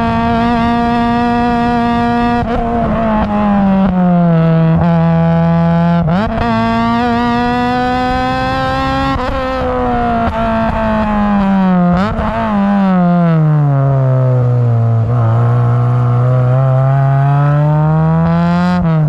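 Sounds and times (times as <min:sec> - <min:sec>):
car engine revving under way: 0:00.0 - 0:19.0.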